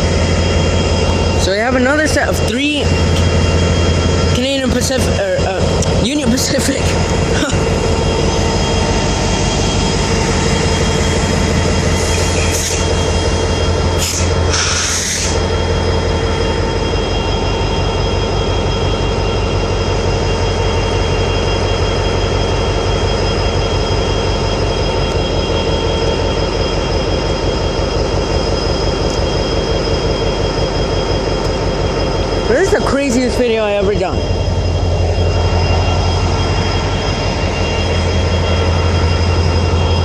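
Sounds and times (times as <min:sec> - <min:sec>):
diesel locomotive engines droning: 0:00.0 - 0:40.0.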